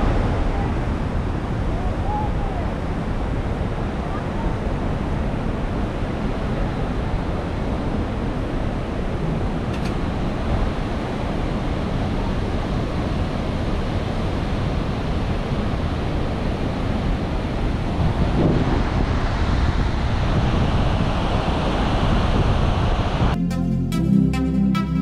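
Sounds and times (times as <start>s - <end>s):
wind buffeting microphone: 0.0s - 23.4s.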